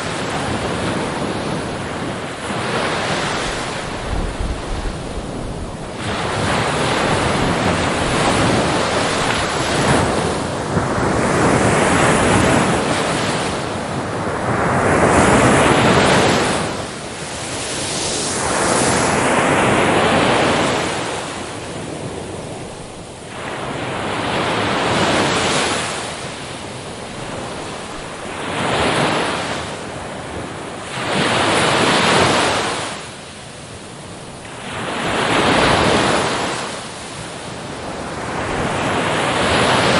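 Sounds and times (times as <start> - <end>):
ocean waves crashing on shore: 0.0 - 39.9.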